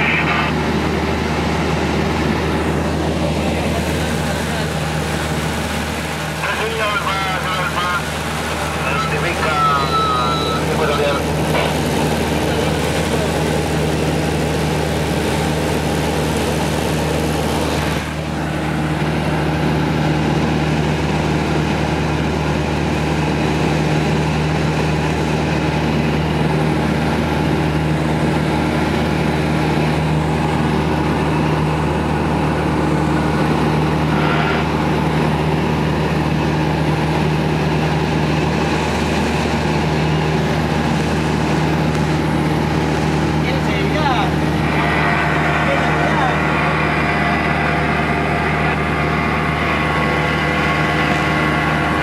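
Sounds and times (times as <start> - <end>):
airplane engine droning: 0.0 - 52.0.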